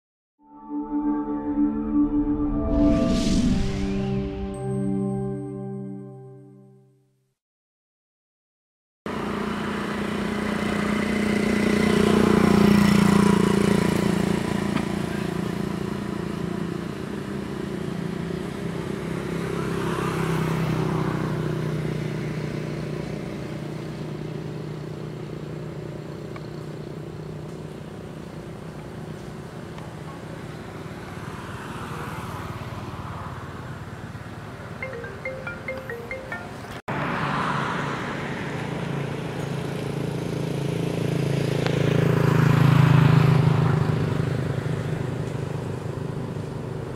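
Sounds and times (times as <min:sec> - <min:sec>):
vehicle engines passing: 0:09.1 - 0:46.9.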